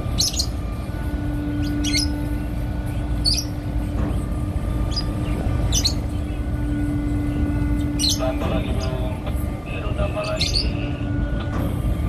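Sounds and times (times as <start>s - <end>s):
ship engines rumbling: 0.0s - 12.0s
steady hum: 0.0s - 12.0s.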